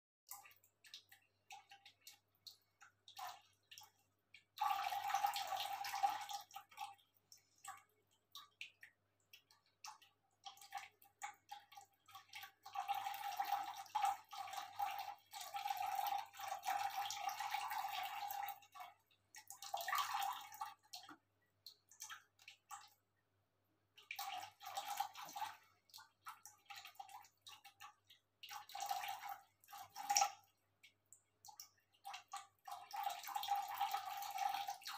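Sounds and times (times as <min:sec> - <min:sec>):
cat lapping water: 0:00.3 - 0:34.9
small drips and ticks: 0:00.3 - 0:34.9.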